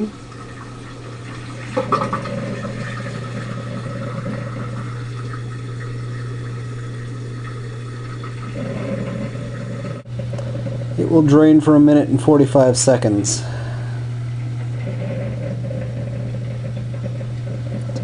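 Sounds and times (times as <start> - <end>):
water being pumped out: 0.0 - 12.1, 13.4 - 18.0
dishwasher motor hum: 0.0 - 18.0.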